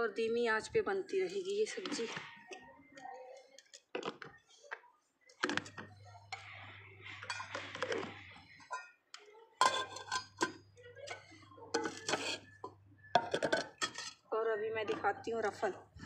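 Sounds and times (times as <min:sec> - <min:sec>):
metal utensils clinking: 0:01.1 - 0:04.2, 0:05.4 - 0:15.8.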